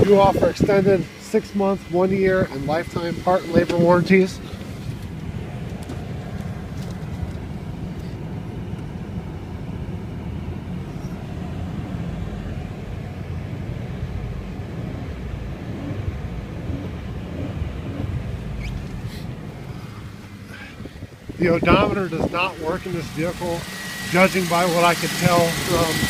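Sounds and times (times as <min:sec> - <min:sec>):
car engine running smoothly: 0:00.0 - 0:26.0.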